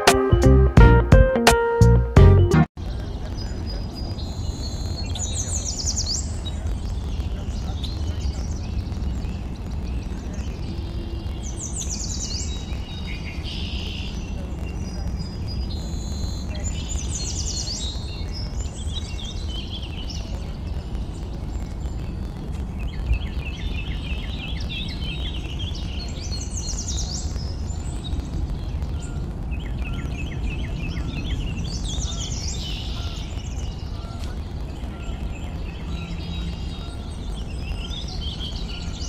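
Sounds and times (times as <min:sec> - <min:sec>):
small songbirds singing: 0:02.8 - 0:39.0.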